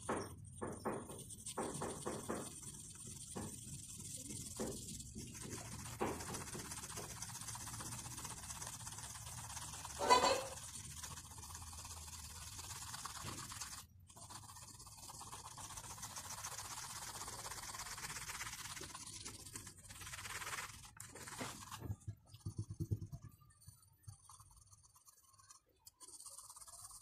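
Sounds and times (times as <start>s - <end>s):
pencil scratching on paper: 0.0s - 27.0s.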